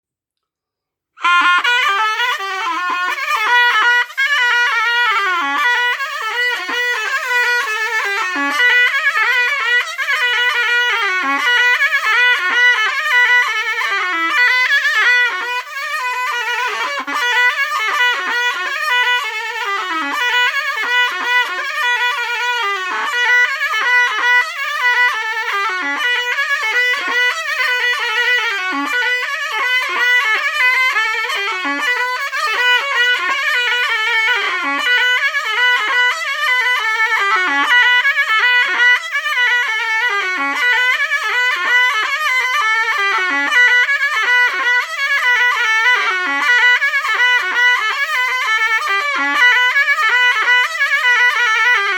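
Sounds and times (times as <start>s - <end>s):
shawm playing ornamented melody: 1.2s - 51.9s.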